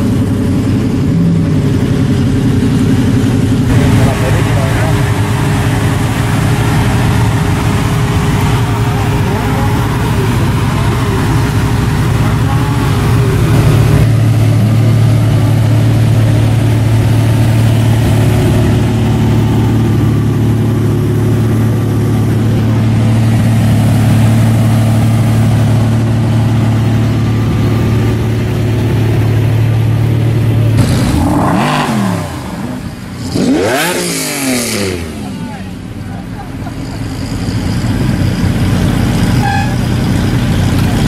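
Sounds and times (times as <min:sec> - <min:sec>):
engine revving: 0:00.0 - 0:41.0
sports car engines idling: 0:00.0 - 0:41.0.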